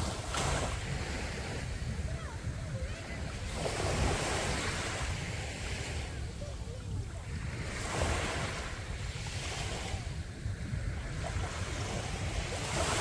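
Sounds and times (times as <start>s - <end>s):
sea waves breaking on beach: 0.0s - 13.0s
wind rumbling on microphone: 0.0s - 13.0s.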